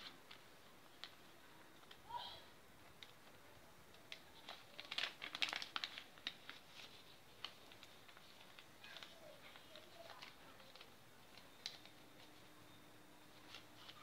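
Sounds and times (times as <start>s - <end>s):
paper crinkling and rustling: 0.0s - 2.1s, 2.9s - 12.6s, 13.2s - 14.0s.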